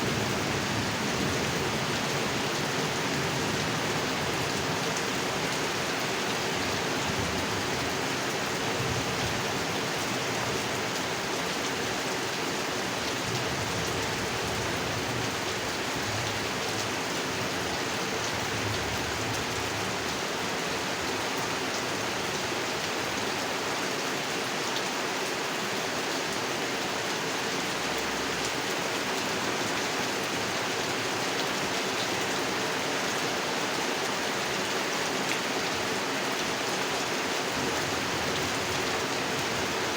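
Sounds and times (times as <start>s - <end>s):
rain falling on a pond: 0.0s - 39.9s.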